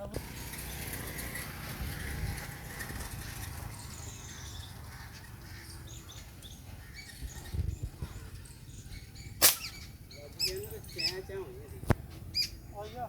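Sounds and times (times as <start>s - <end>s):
low steady rumble: 0.0s - 10.8s
birds chirping: 0.0s - 13.0s.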